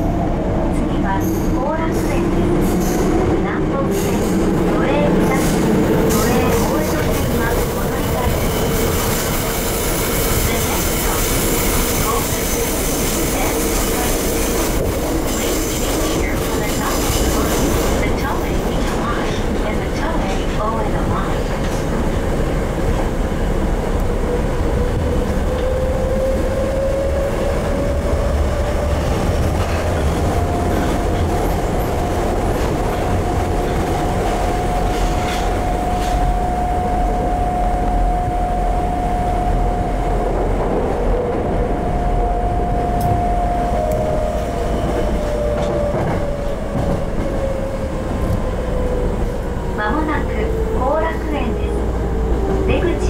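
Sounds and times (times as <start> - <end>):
low rumble of wheels on track: 0.0 - 53.0.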